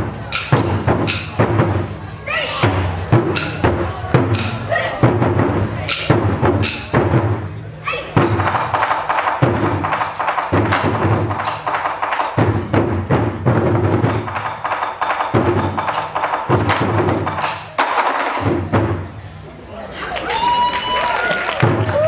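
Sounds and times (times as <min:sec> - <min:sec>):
taiko drums booming: 0:00.0 - 0:19.3, 0:21.6 - 0:22.0.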